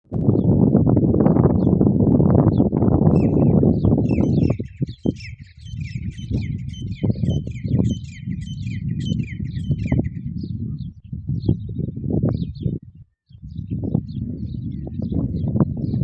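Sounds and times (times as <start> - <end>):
small birds chirping: 1.3 - 16.0.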